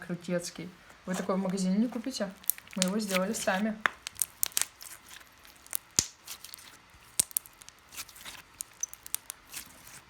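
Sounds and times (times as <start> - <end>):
crunchy slime squeezed by hand: 1.1 - 10.0.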